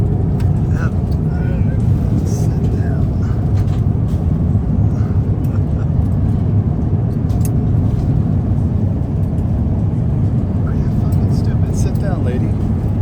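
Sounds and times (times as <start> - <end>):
airliner cabin roar: 0.0 - 13.0.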